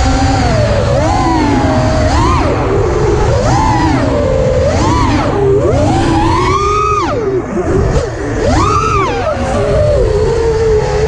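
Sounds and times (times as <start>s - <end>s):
drone motors whining: 0.0s - 11.0s
rough low rumble: 0.0s - 11.0s.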